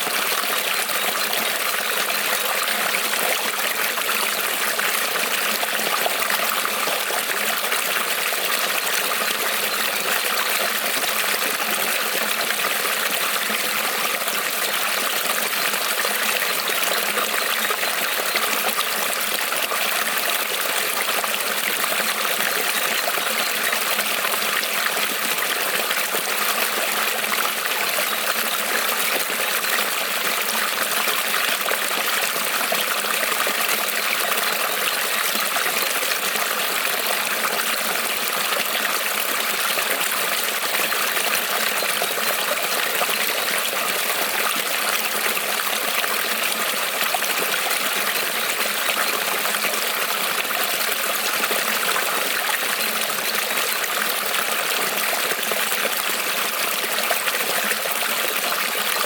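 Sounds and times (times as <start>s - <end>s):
creek water trickling over stones: 0.0s - 59.0s.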